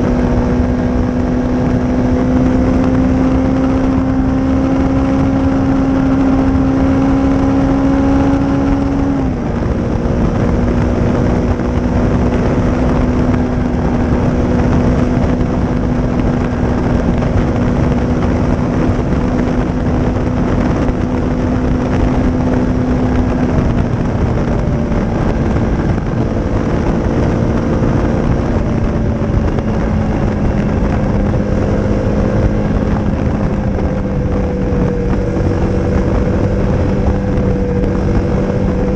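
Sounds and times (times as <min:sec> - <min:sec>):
constant rush of noise: 0:00.0 - 0:38.9
motorcycle engine cruising: 0:00.0 - 0:38.9.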